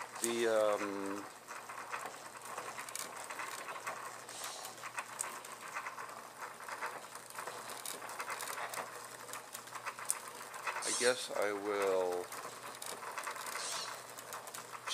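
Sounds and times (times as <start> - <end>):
chain and sprockets rattling: 0.0 - 14.9.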